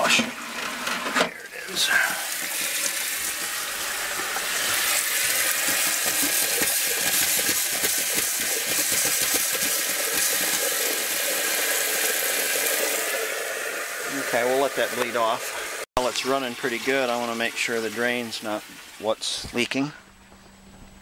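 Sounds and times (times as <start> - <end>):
spitting crackle of air in pipes: 0.0 - 18.6
faucet running into sink: 0.2 - 19.1.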